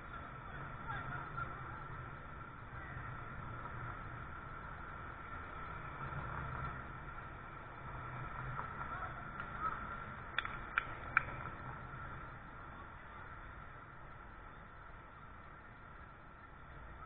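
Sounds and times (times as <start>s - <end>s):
outdoor background hum and hiss: 0.0s - 17.0s
thin steady whine: 0.0s - 17.0s.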